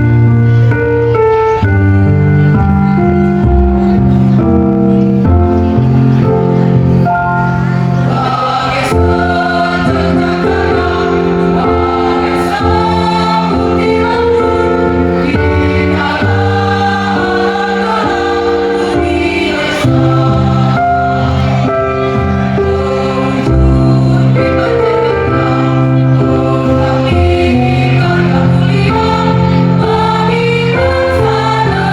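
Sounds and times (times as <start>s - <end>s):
keyboard accompaniment: 0.0s - 31.9s
choir singing in harmony: 5.6s - 31.9s.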